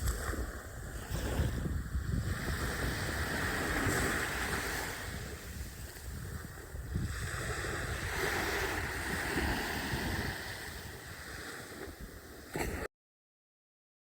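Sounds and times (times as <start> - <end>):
waves rushing: 0.0 - 12.9
wind rumbling on microphone: 0.0 - 12.9.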